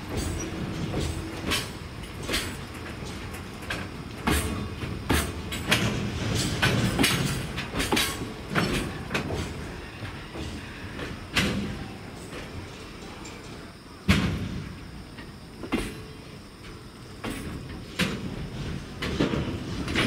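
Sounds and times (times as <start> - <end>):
low train rumble: 0.0 - 20.0
train wheels clanking over rail joints: 0.0 - 20.0.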